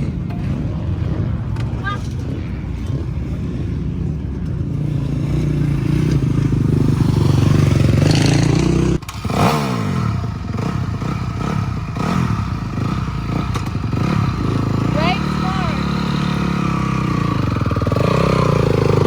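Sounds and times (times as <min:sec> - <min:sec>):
bike engine passing by: 0:00.0 - 0:19.0
dirt bike engines revving: 0:00.0 - 0:19.0.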